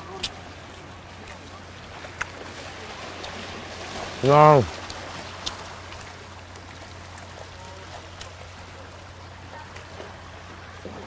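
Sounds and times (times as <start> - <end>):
sea waves washing against rocks: 0.0 - 11.0.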